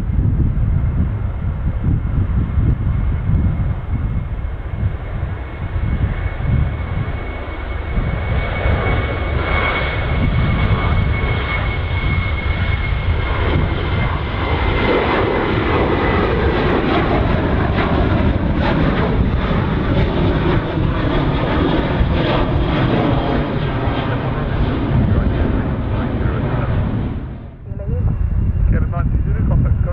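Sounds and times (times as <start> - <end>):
airliner engines rumbling with whine: 0.0 - 29.9.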